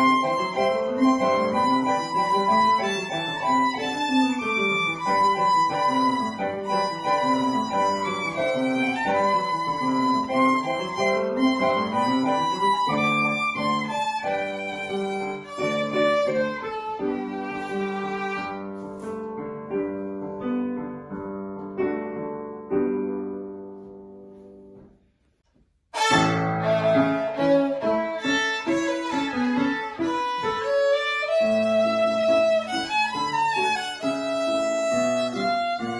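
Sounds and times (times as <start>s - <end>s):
violin melody: 0.0s - 20.9s, 26.0s - 35.9s
piano accompaniment: 0.0s - 35.9s.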